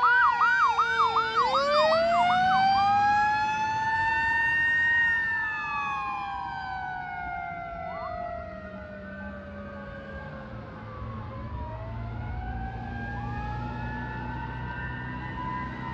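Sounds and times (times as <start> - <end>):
fire engine siren wailing: 0.0 - 15.9.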